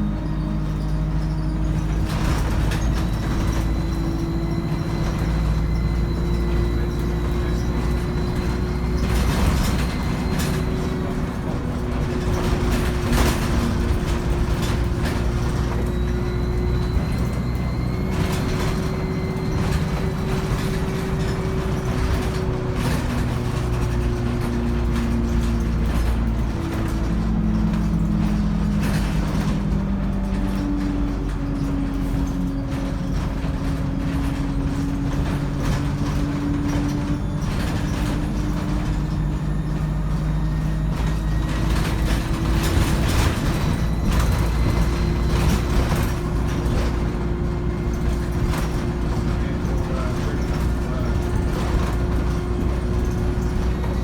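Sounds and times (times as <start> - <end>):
bus diesel engine with gearbox whine: 0.0 - 54.0
high turbo whine: 0.0 - 54.0
rattles and clicks: 0.6 - 54.0.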